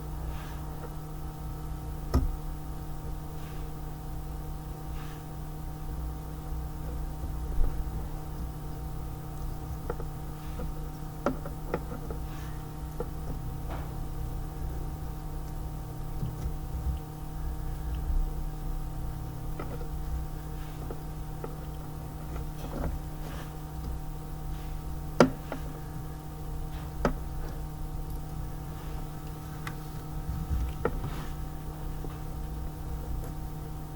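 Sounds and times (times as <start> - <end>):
low electrical hum: 0.0 - 33.9.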